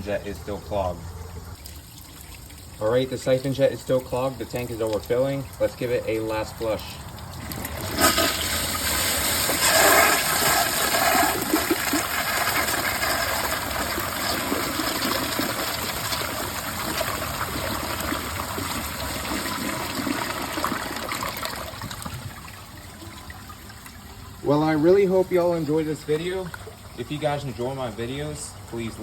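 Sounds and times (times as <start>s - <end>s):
toilet flushing water rush: 0.0s - 29.0s.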